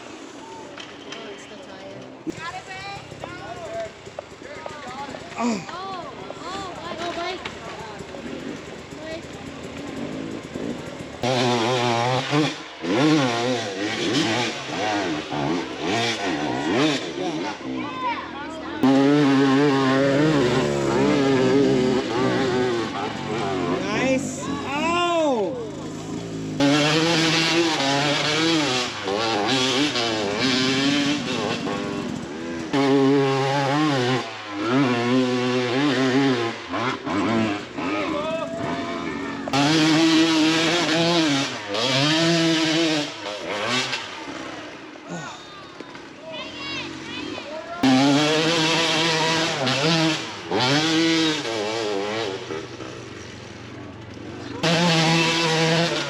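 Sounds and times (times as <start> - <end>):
dirt bike engine revving: 2.2 - 56.0.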